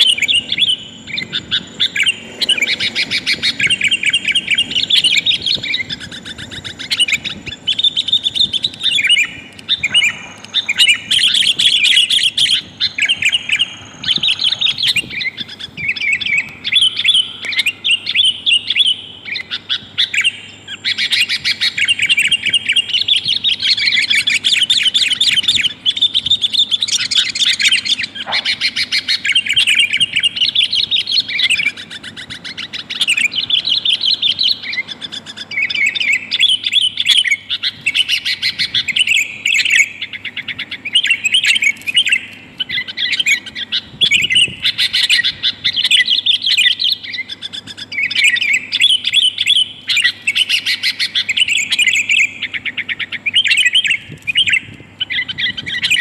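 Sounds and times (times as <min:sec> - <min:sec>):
bird chattering calls: 0:00.0 - 0:56.0.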